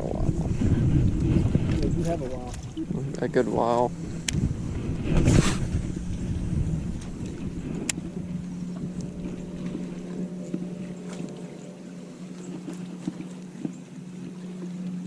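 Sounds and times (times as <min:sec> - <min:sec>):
boat motor humming: 0:00.0 - 0:15.0
wind rumble on microphone: 0:00.0 - 0:15.0.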